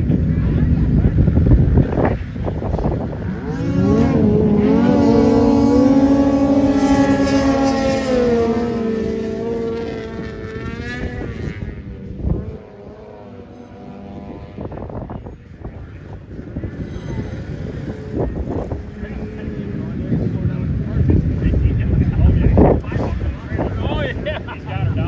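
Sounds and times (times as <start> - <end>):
snowmobile engines accelerating: 0.0 - 25.0.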